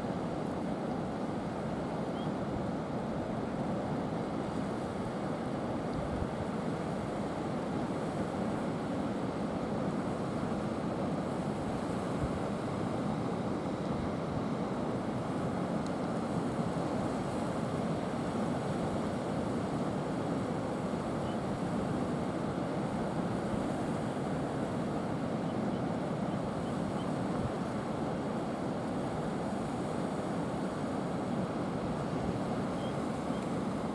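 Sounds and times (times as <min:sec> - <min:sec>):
wind: 0:00.0 - 0:33.9
sea surf against rocks: 0:02.5 - 0:33.9.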